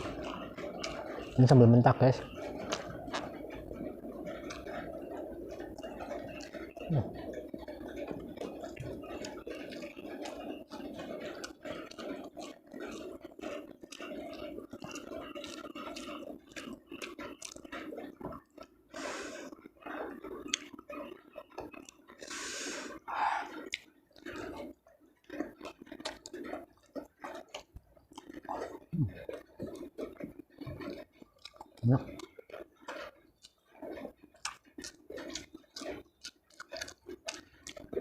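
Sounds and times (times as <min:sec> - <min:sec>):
wet chewing of food: 0:00.0 - 0:38.0.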